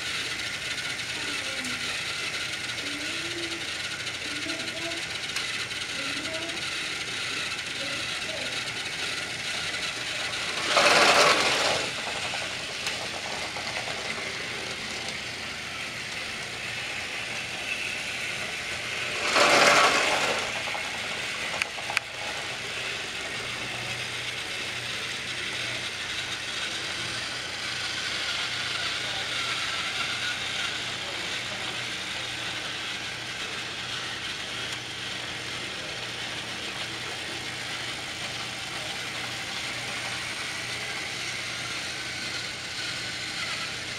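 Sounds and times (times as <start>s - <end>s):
toy train motors whirring: 0.0s - 43.9s.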